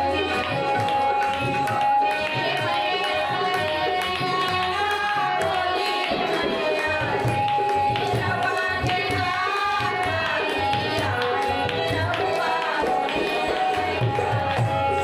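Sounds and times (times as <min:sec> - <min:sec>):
hand drums steady rhythm: 0:00.0 - 0:15.0.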